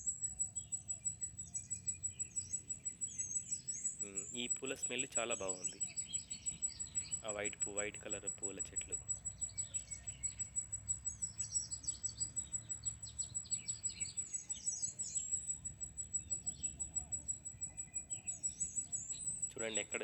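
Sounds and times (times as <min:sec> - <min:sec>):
small birds chirping: 0:00.0 - 0:20.0
thin steady high tone: 0:00.0 - 0:20.0.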